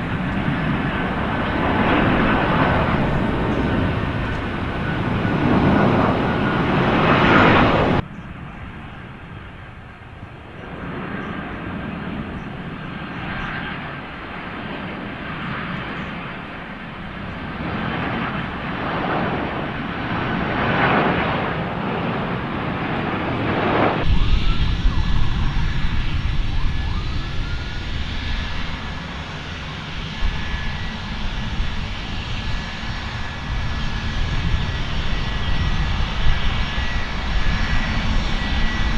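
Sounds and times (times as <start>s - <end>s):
airplane engines rumbling: 0.0s - 38.9s.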